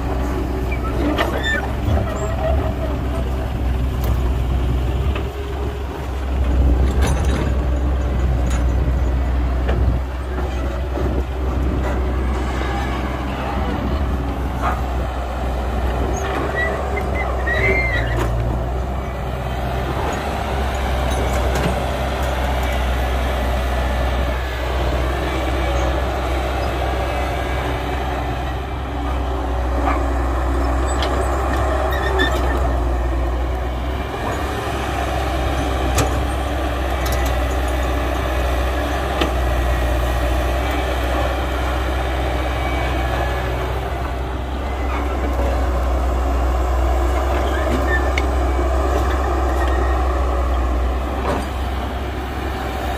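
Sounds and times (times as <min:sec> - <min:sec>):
excavator diesel engine: 0:00.0 - 0:52.9.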